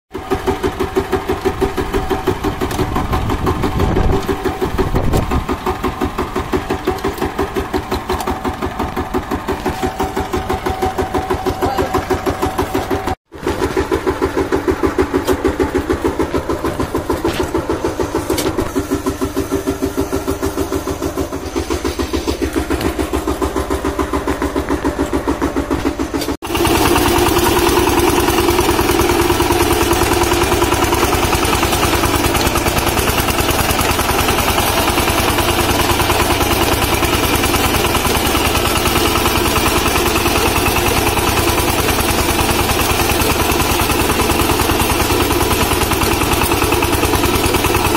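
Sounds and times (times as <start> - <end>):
diesel tiller engine running: 0.1 - 47.9
rotary tines working soil: 0.1 - 47.9.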